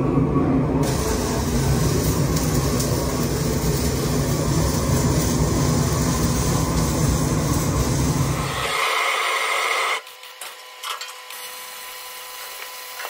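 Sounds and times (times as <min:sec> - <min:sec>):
propane torch burning: 0:00.8 - 0:13.0.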